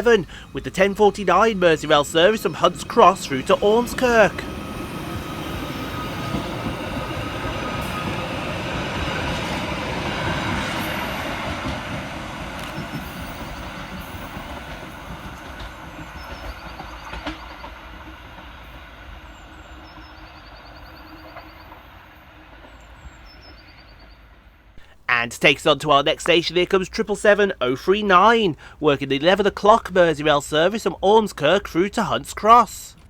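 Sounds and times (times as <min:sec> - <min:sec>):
electric train rumbling away: 0:00.0 - 0:33.0.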